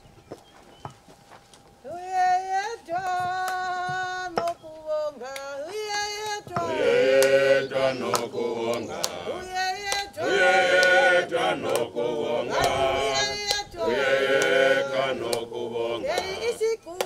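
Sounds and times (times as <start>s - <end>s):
person singing hymn with held notes: 1.8s - 17.0s
congregation singing: 1.9s - 17.0s.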